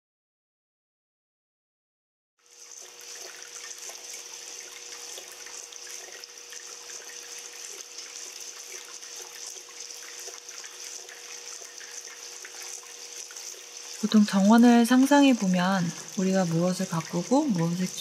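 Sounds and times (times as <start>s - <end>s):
water running and trickling: 2.4s - 18.0s.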